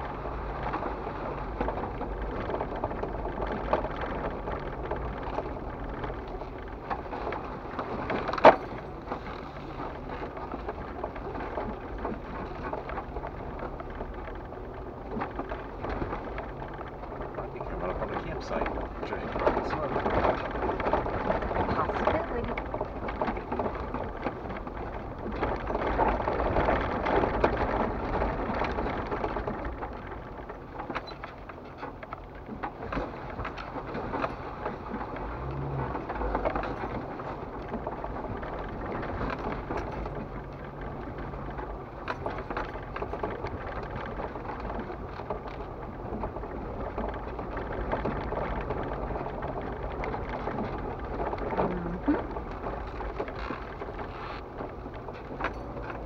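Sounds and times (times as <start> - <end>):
car engine running low: 0.0 - 56.0
tyres crunching over gravel: 0.0 - 56.0.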